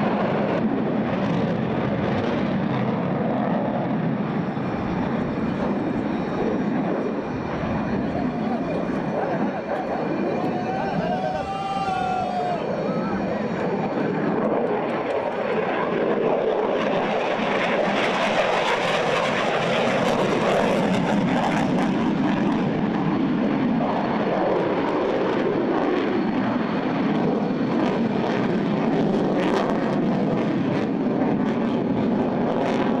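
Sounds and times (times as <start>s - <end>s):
jet engine roar: 0.0s - 33.0s.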